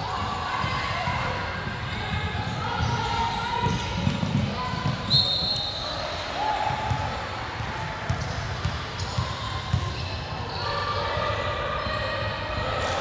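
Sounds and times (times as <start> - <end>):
voices echoing in hall: 0.0 - 13.0.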